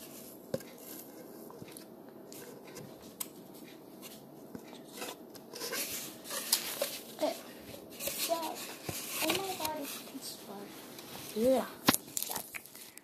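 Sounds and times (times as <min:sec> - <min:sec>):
faint clicks and rustles: 0:00.0 - 0:13.0
room hum: 0:00.0 - 0:13.0.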